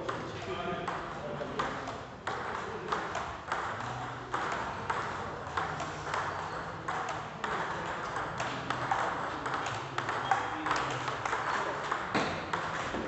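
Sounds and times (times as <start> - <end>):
table tennis ball clicks: 1.0 - 13.0.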